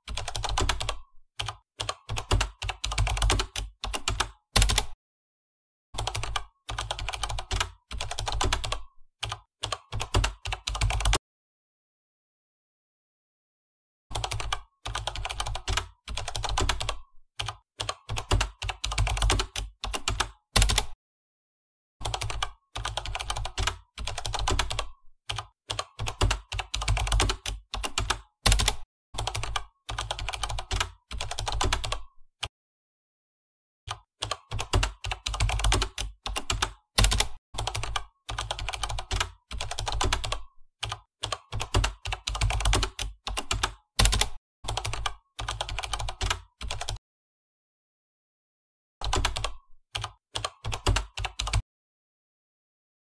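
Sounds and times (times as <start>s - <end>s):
keyboard typing: 0.0s - 5.0s, 6.0s - 11.2s, 14.1s - 21.0s, 22.0s - 32.2s, 33.9s - 47.0s, 49.0s - 51.6s.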